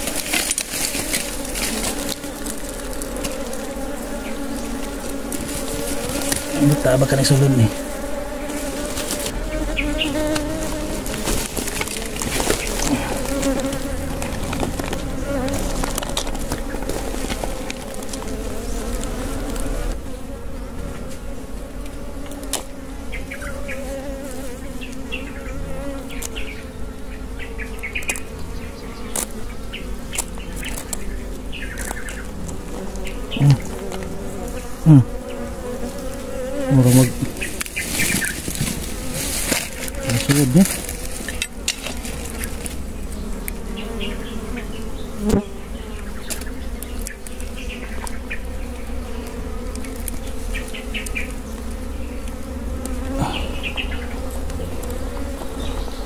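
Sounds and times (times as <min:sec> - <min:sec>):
soil rustling and scratching: 0:00.0 - 0:20.0, 0:27.8 - 0:44.5, 0:46.0 - 0:56.0
bees buzzing: 0:00.0 - 0:56.0
bees zipping past microphone: 0:00.0 - 0:56.0.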